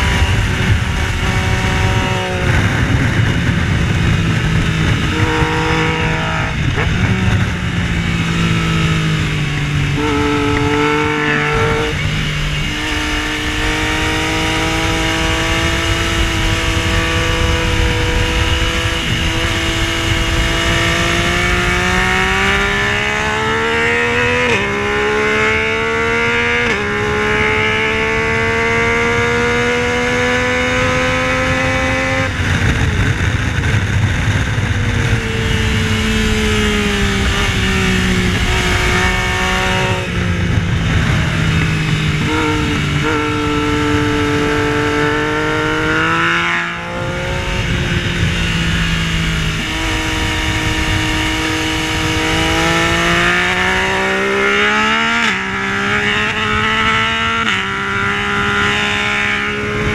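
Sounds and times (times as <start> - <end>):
motorcycle engine revving: 0.0 - 59.9
wind rushing: 0.0 - 59.9.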